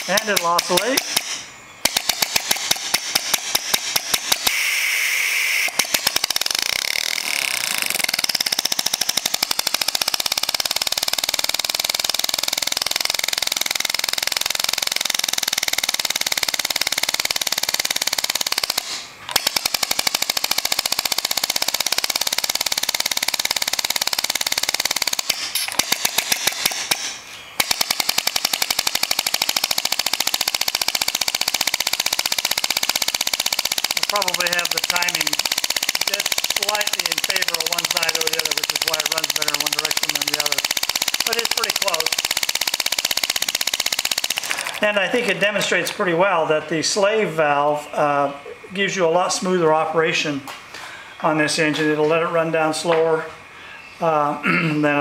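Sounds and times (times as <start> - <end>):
valve clicks: 0.0 - 44.9.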